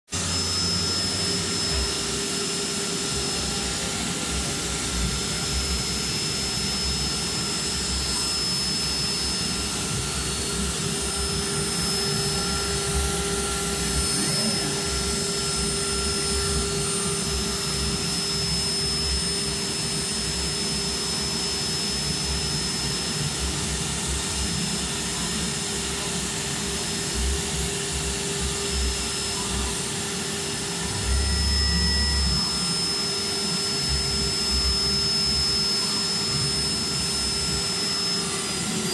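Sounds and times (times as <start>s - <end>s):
router spindle whine: 0.1s - 38.9s.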